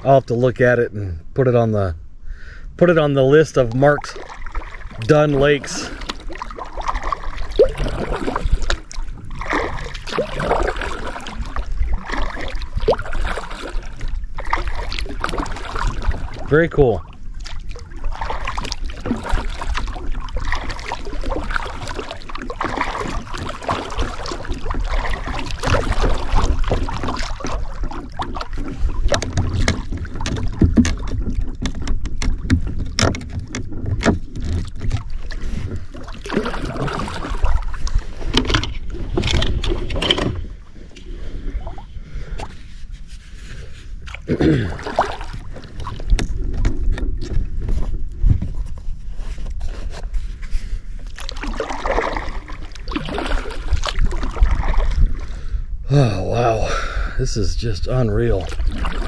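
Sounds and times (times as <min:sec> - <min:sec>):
wind rumbling on microphone: 0:01.2 - 0:59.0
paddle dipping into water: 0:03.3 - 0:59.0.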